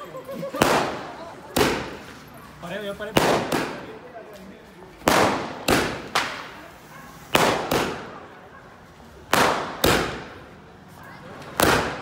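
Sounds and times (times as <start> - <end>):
firecrackers banging: 0.4 - 4.2, 4.9 - 12.0.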